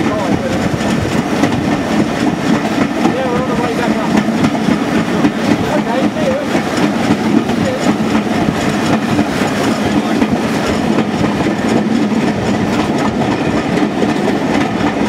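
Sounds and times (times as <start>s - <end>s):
wheels clacking over rail joints: 0.0s - 15.0s.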